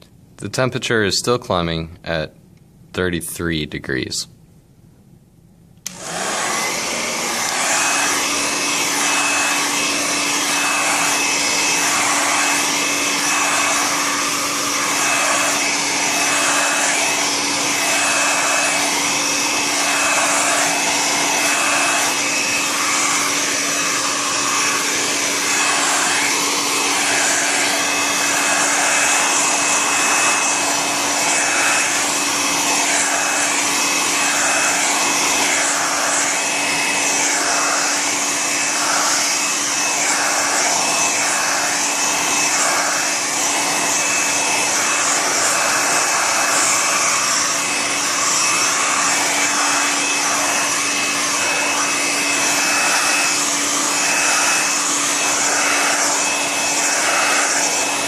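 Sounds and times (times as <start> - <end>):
hair dryer switch: 5.8 - 58.0
hair dryer whining: 5.8 - 58.0.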